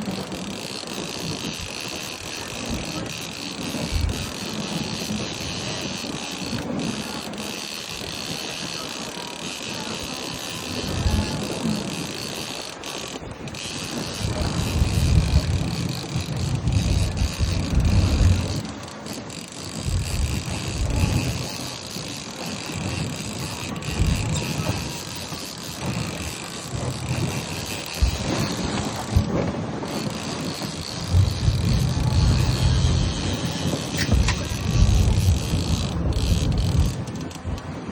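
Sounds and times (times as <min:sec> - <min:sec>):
faint clicking of gear: 0:00.0 - 0:37.8
wind gusting on microphone: 0:00.0 - 0:37.9.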